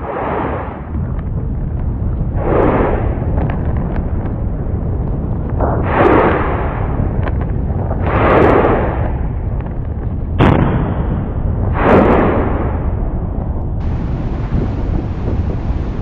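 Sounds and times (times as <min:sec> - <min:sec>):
deep volcanic rumble: 0:00.0 - 0:16.0
loud eruption blasts: 0:00.0 - 0:16.0.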